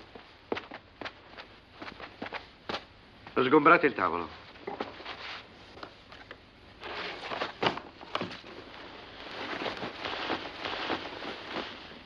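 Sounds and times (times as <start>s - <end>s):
cloth rustling: 0.0s - 3.0s, 4.2s - 12.0s.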